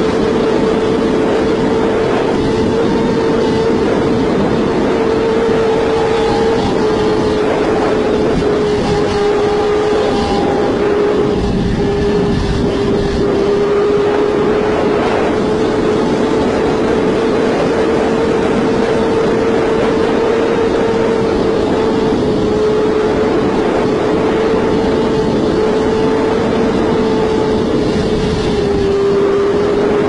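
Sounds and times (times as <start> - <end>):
motorcycle engine at high revs: 0.0 - 30.0
wind rush on microphone: 0.0 - 30.0.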